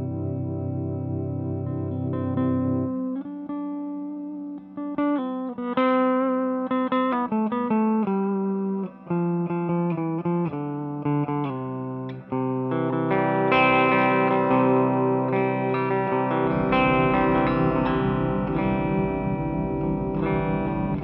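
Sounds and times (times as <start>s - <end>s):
electric guitar through sequencer pedal: 0.0s - 21.0s.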